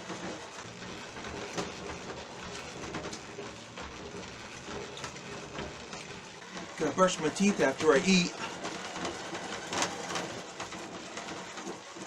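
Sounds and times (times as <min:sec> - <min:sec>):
bicycle running noise: 0:00.0 - 0:12.0.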